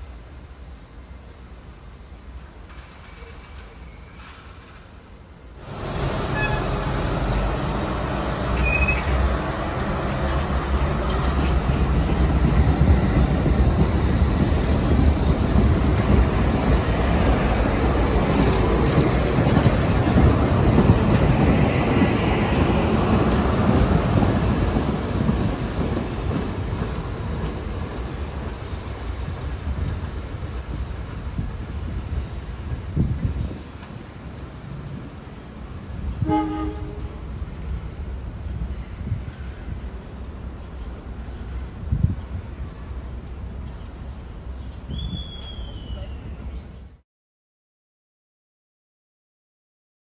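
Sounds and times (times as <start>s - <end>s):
subway train rumbling past: 0.0s - 47.0s.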